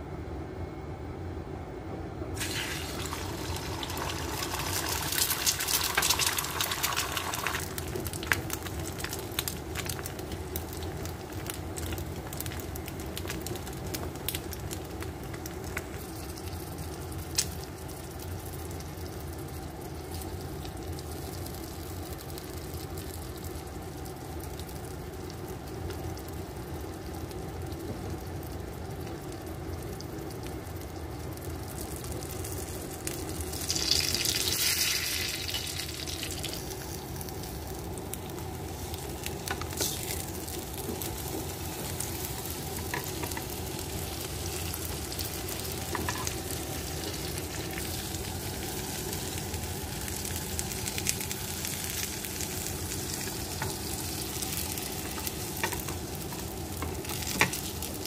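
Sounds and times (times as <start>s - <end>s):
steady low hum: 0.0s - 58.0s
egg sizzling in hot oil: 2.4s - 58.0s
frying crackles and pops: 2.4s - 58.0s.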